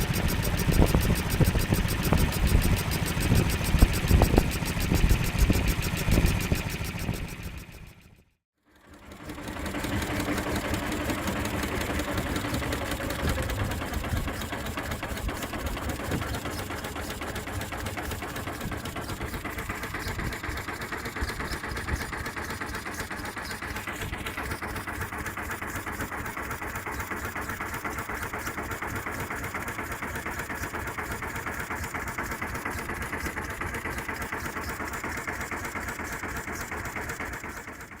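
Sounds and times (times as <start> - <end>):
marine engine running: 0.0 - 38.0.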